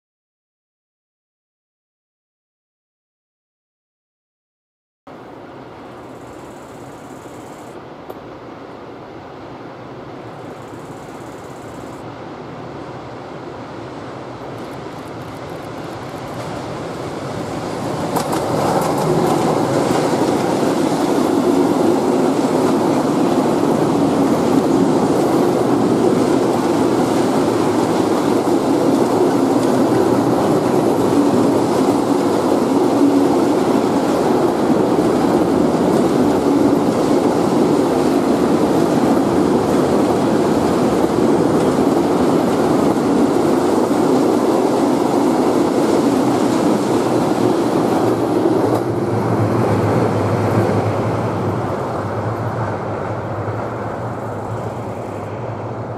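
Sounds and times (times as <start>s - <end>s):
electric locomotive passing: 5.2s - 55.9s
train wheels on rails: 5.8s - 8.3s, 10.3s - 12.1s, 13.6s - 55.9s.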